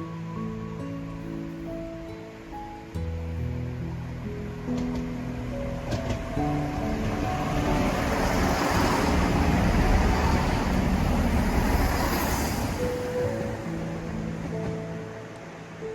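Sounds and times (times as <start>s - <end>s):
background music: 0.0s - 15.9s
train passing rumble: 1.6s - 15.9s.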